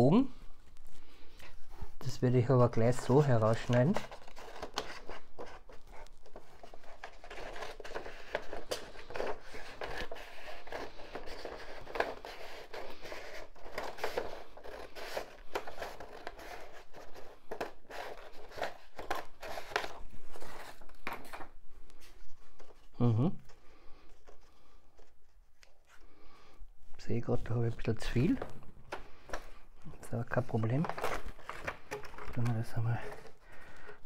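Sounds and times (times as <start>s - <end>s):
paper rustling and crinkling: 0.6s - 26.2s, 27.4s - 34.0s.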